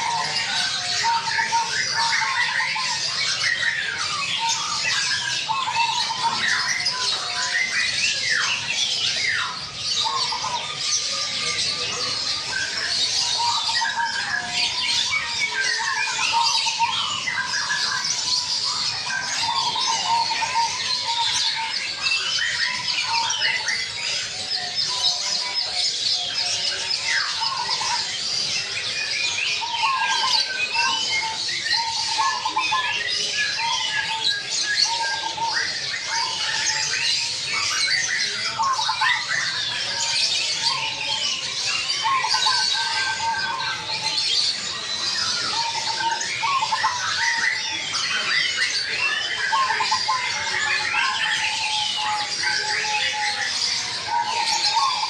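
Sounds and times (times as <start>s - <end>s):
doves cooing: 0.0s - 9.4s, 10.0s - 25.7s, 29.4s - 55.0s
many birds chirping and twittering: 0.0s - 55.0s.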